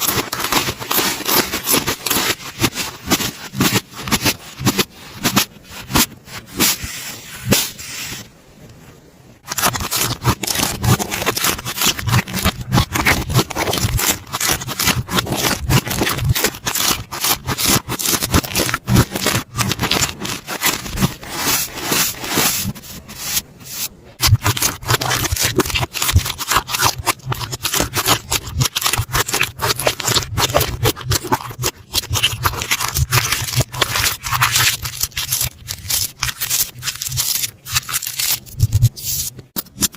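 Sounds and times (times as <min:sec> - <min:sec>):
slime crackling by hand: 0:00.0 - 0:07.8, 0:09.4 - 0:39.9.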